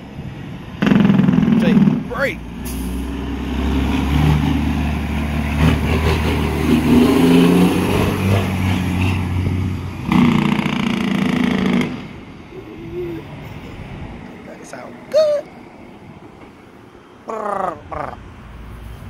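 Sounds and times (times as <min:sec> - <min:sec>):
diesel truck driving past: 0:00.0 - 0:19.0.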